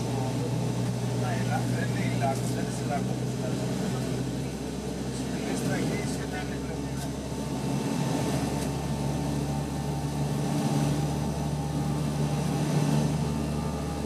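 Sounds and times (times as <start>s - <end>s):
deep pulsing hum: 0.0s - 14.0s
turboprop engines droning: 0.0s - 14.0s.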